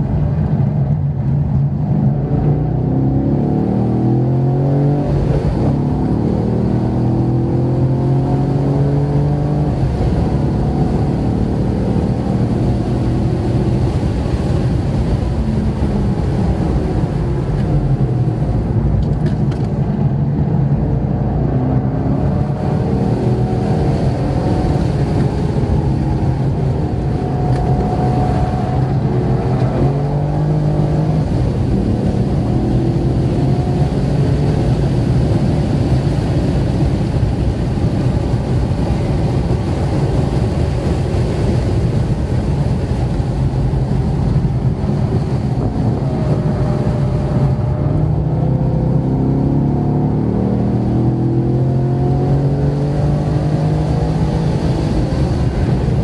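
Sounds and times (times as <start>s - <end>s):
tyre and road noise: 0.0s - 56.0s
car engine revving: 1.8s - 56.0s.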